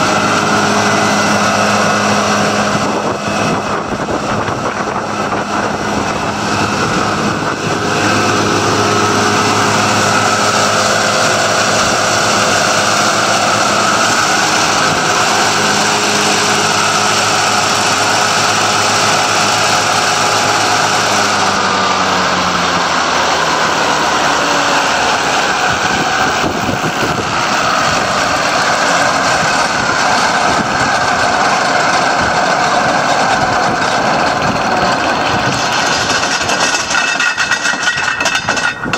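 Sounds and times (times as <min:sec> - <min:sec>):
mower discs whirring: 0:00.0 - 0:38.9
tractor engine: 0:00.0 - 0:38.9.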